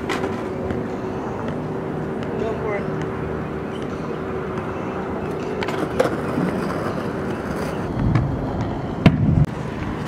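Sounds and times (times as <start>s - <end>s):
wheels rolling on concrete: 0.0s - 10.0s.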